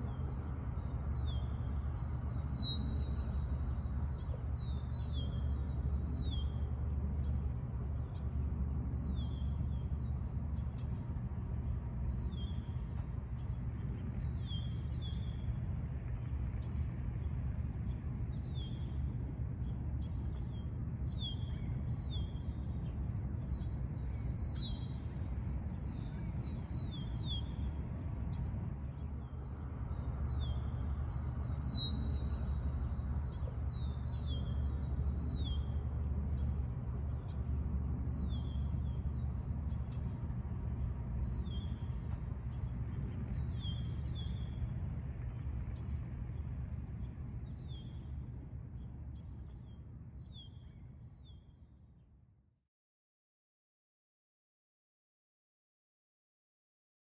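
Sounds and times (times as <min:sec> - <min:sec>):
steady low rumble: 0:00.0 - 0:52.2.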